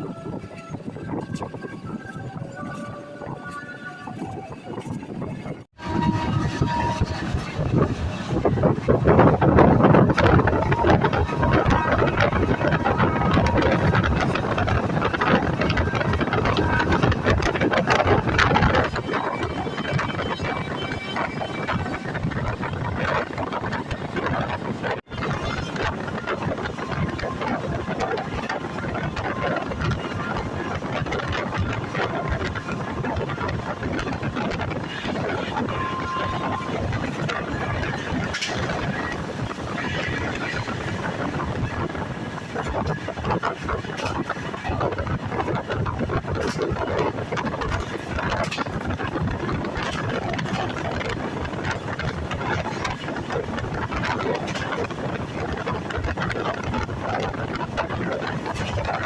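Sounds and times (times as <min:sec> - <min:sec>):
passenger train rumbling and rattling: 0:00.0 - 0:59.0
wind buffeting microphone: 0:00.0 - 0:59.0.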